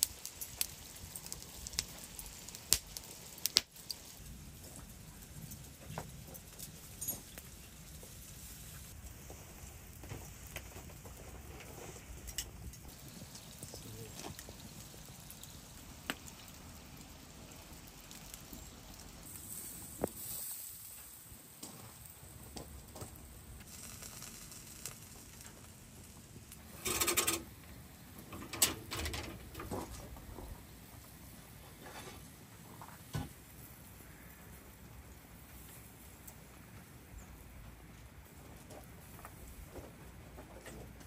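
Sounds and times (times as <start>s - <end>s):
charcoal fire crackling and popping: 0.0s - 41.0s.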